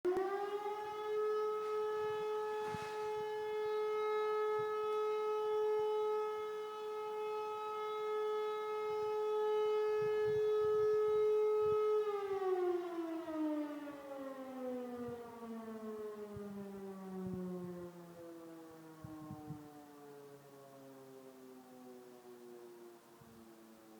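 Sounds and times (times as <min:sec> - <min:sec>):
air-raid siren: 0:00.0 - 0:23.9.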